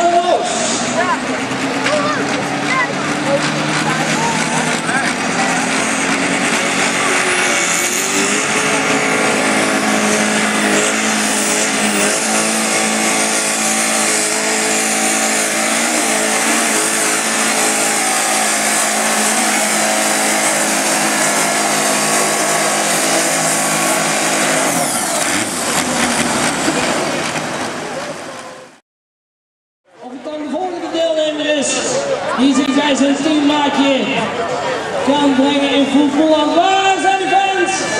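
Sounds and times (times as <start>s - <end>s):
tractor engine at full throttle: 0.0s - 28.8s, 30.0s - 37.9s.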